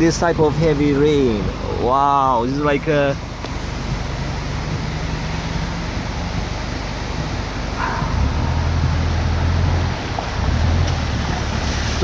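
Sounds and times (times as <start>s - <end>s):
floodwater rushing and rain: 0.0s - 12.0s
low engine hum: 0.0s - 12.0s.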